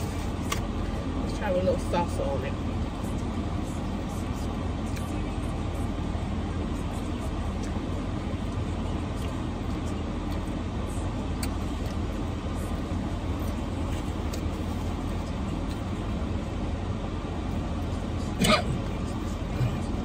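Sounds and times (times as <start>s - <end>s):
low rumble inside car: 0.0s - 20.0s.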